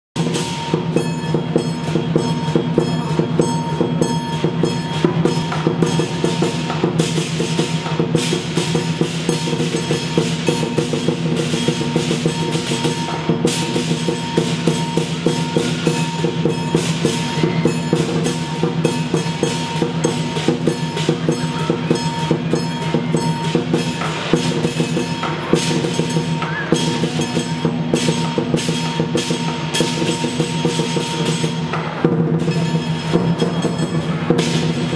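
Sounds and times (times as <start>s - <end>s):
clashing cymbals: 0.2s - 34.9s
large drum beaten fast: 0.2s - 34.9s.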